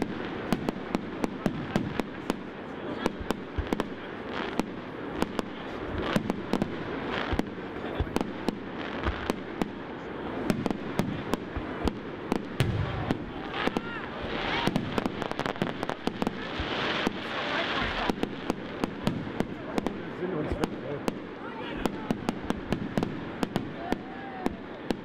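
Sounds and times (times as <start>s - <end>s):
crowd murmuring: 0.0s - 25.0s
fireworks bursting with sharp bangs: 0.0s - 25.0s.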